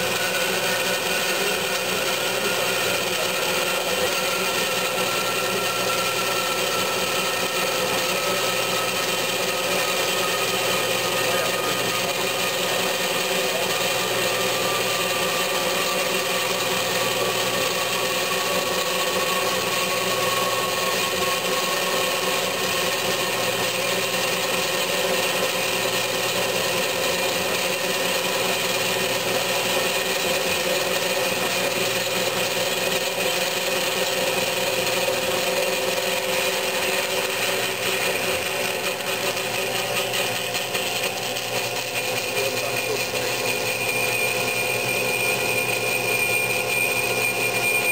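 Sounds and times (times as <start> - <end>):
band saw cutting steel: 0.0 - 47.9.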